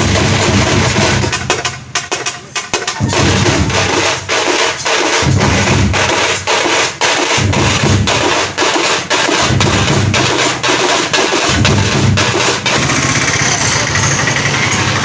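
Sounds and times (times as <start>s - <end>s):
deep drum thuds: 0.0s - 13.4s
percussion troupe drumming: 0.0s - 15.0s.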